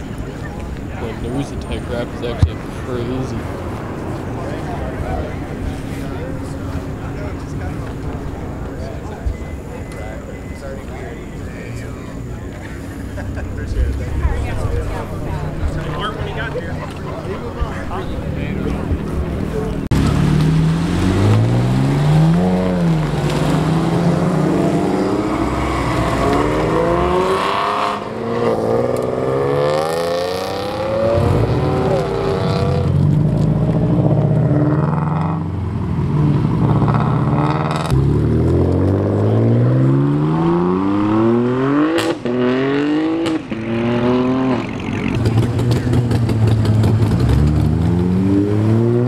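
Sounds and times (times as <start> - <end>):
sports car engines accelerating: 0.0 - 49.0.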